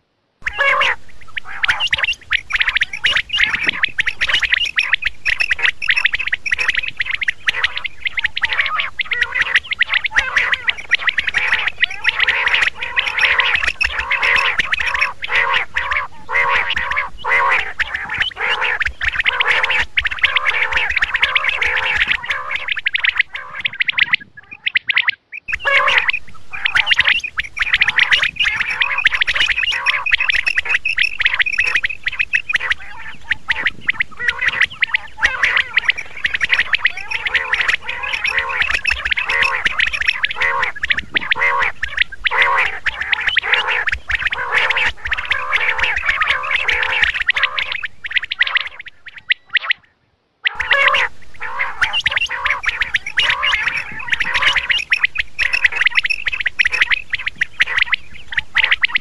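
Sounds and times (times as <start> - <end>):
quails calling: 0.4 - 59.0.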